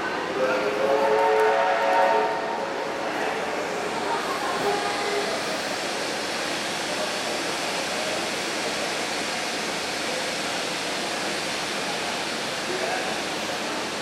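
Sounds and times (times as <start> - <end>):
faint voices: 0.0 - 14.0
steam hissing from locomotive: 0.6 - 14.0.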